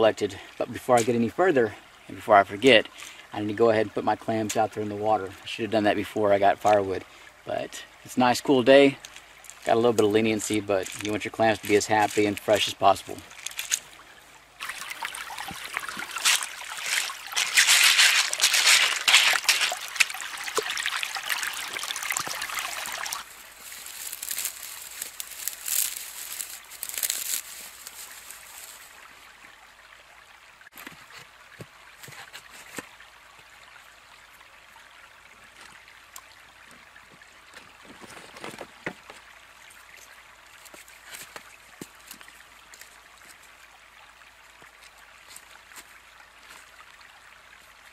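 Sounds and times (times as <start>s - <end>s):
faint steady stream: 0.0s - 47.9s
water trickling and splashing: 0.0s - 47.9s.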